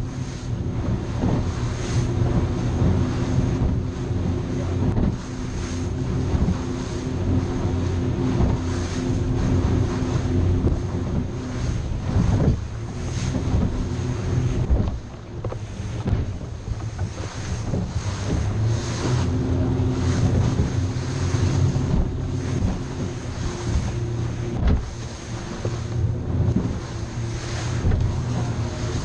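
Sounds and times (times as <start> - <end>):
hull slapping waves: 0.0 - 29.0
outboard engine droning: 0.0 - 29.0
wind buffeting microphone: 0.0 - 29.0.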